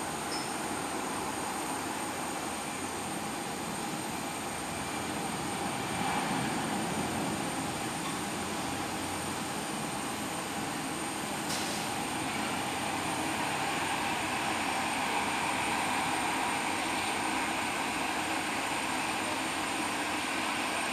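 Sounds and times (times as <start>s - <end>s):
jet engines rushing hum: 0.0s - 20.9s.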